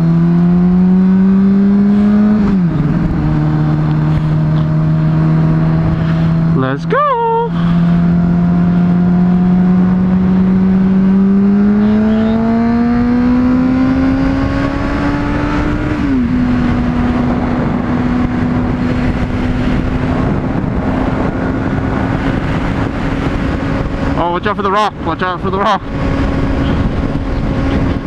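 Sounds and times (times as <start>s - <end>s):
motorcycle engine revving: 0.0s - 28.0s
wind rush on microphone: 0.0s - 28.0s.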